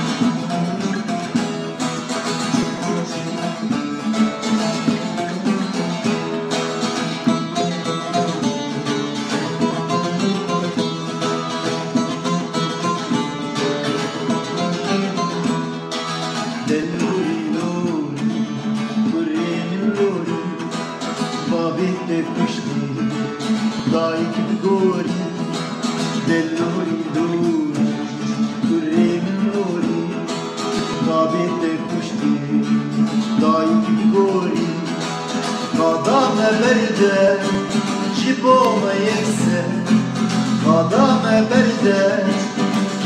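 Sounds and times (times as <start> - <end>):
person singing: 0.0 - 15.6, 16.5 - 43.0
plucked acoustic guitar chords: 0.0 - 43.0.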